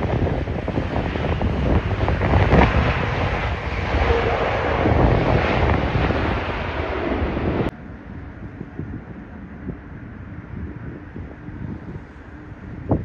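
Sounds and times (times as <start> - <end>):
jet airliner engine roar: 0.0 - 13.0
wind buffeting microphone: 0.0 - 13.0.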